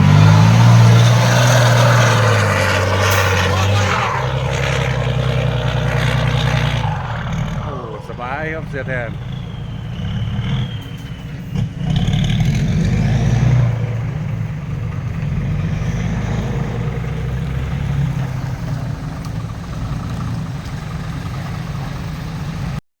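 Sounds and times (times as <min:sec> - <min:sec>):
truck diesel engine under load: 0:00.0 - 0:22.8.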